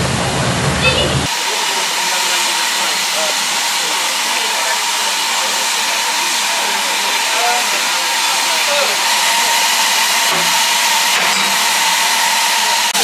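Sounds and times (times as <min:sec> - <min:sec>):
loud steam hiss: 0:00.0 - 0:13.0.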